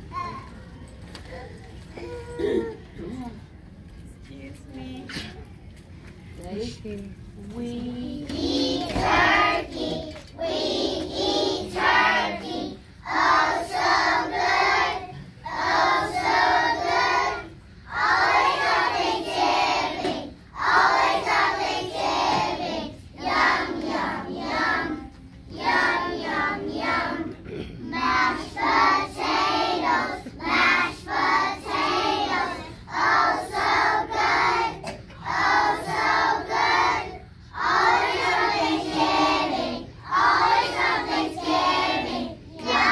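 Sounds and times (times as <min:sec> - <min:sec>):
children singing together: 0:08.2 - 0:42.9.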